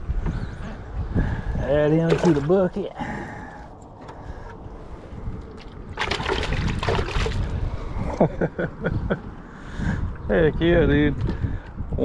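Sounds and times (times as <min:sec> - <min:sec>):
wind noise on microphone: 0:00.0 - 0:03.5, 0:04.1 - 0:12.0.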